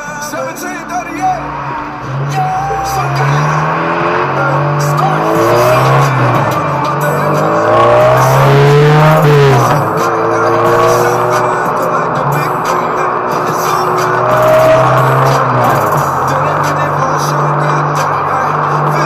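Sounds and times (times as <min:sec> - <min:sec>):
car engine accelerating through gears: 0:00.5 - 0:19.0.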